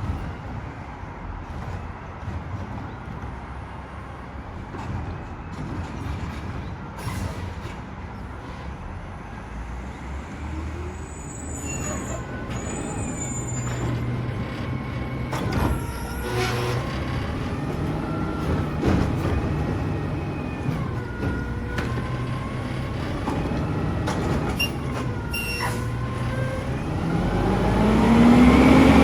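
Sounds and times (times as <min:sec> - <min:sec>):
garbage truck engine drone: 0:00.0 - 0:29.0.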